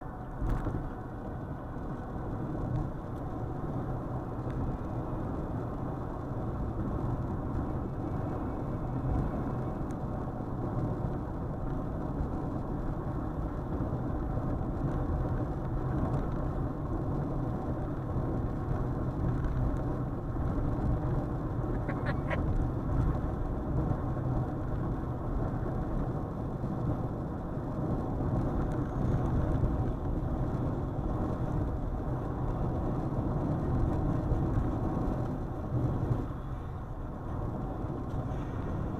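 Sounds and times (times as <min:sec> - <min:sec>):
car tyres and engine rumble: 0:00.0 - 0:38.9.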